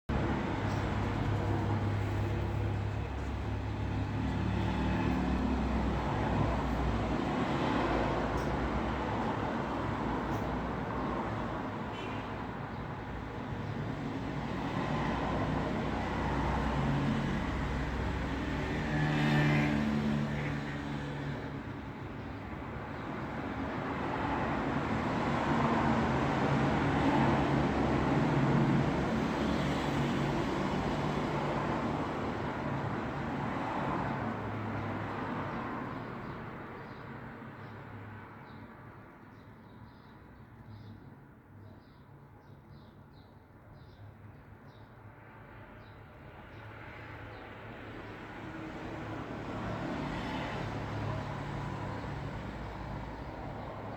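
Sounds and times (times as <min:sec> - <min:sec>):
vehicles passing: 0:00.1 - 0:39.2, 0:45.3 - 0:53.9.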